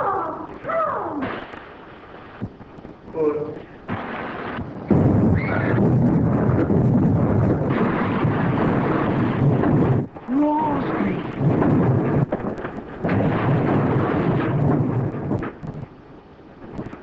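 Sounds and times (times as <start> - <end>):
explosion rumble: 0.0 - 17.0.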